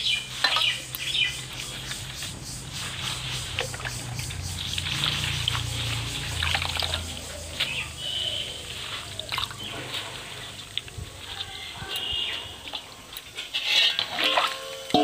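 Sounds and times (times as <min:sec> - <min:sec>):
water splashing and dripping: 0:00.0 - 0:15.0
wet leaves rustling: 0:00.0 - 0:15.0.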